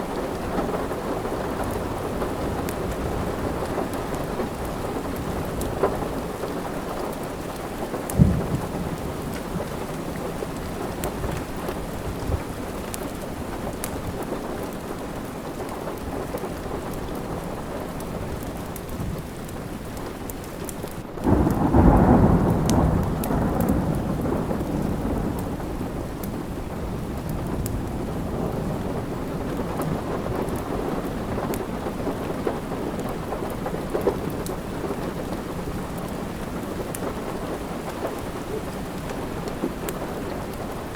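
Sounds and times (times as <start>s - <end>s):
thunder rumbling: 0.0s - 15.9s, 21.2s - 40.9s
steady rain: 0.0s - 40.9s
wood fire crackling: 0.0s - 40.9s.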